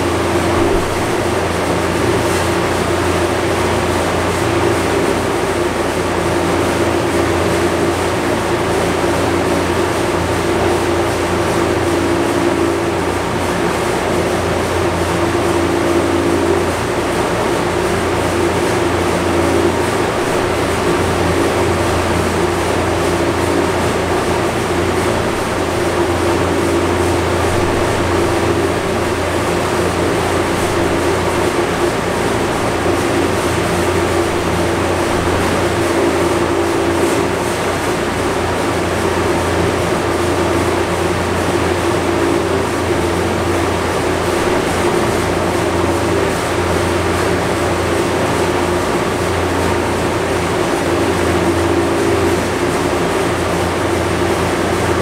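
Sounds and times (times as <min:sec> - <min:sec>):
car engine droning on dyno: 0:00.0 - 0:55.0.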